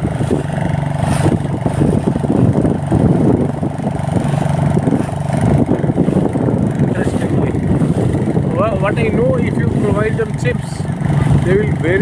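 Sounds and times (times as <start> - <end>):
motorboat engine humming: 0.0 - 12.0
rushing water noise: 0.0 - 12.0.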